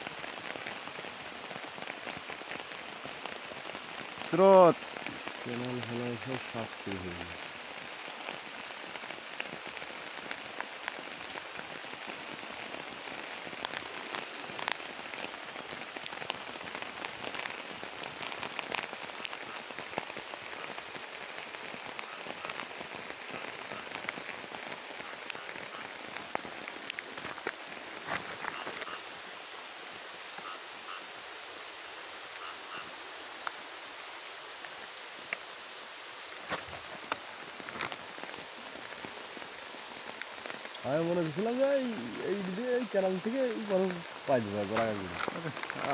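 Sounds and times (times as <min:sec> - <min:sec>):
rain hissing: 0:00.0 - 0:45.9
raindrops tapping on leaves: 0:00.0 - 0:45.9.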